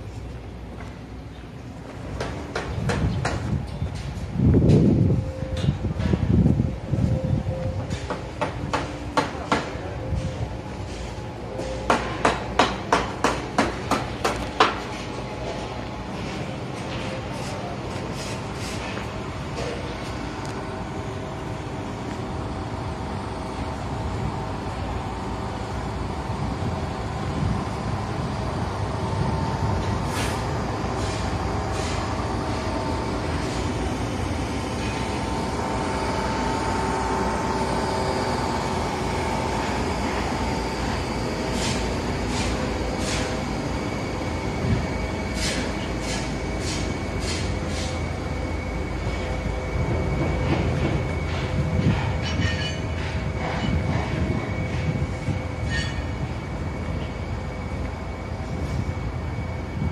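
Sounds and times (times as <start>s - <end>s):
electric train rumbling: 0.0s - 59.9s
train whine: 0.0s - 59.9s.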